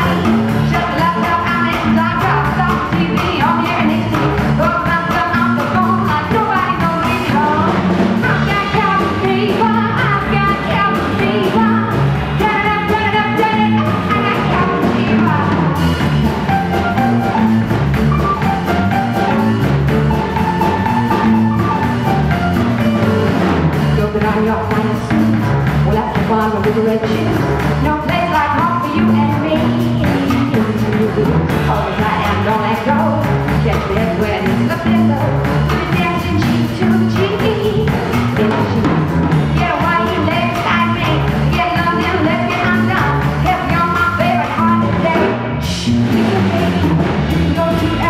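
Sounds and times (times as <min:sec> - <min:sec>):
live jazz band playing: 0:00.0 - 0:48.0.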